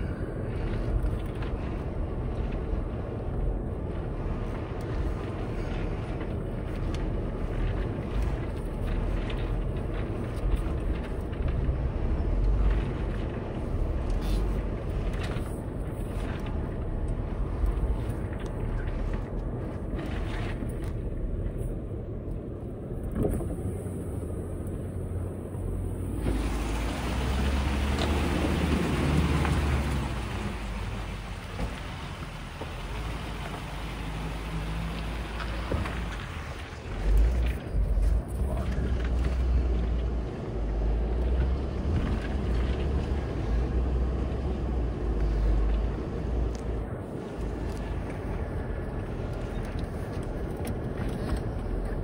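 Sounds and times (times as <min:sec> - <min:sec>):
car engine running low: 0:00.0 - 0:52.0.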